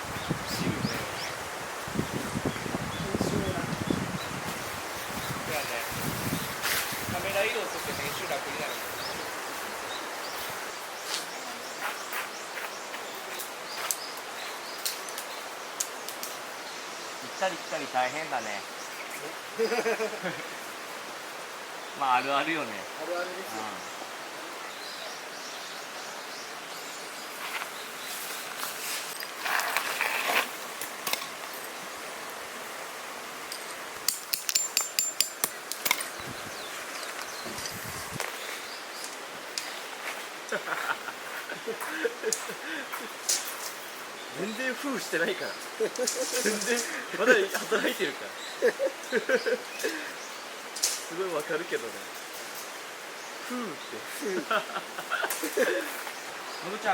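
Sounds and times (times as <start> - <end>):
faint outdoor background: 0.0 - 56.9
steady hiss: 0.0 - 56.9.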